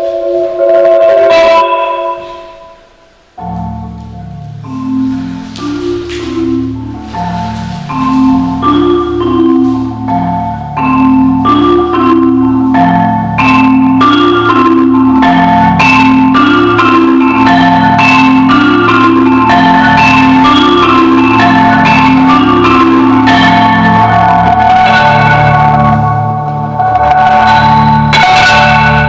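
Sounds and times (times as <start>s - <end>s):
marimba music: 0.0s - 29.0s.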